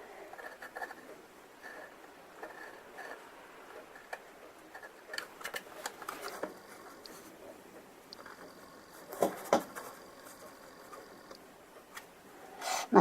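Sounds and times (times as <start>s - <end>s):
scratching on plastic: 0.3s - 12.1s.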